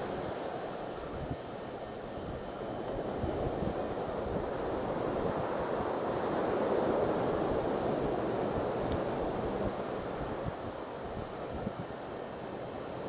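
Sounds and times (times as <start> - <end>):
ocean surf washing in: 0.0 - 13.0
wind on microphone: 0.0 - 13.0.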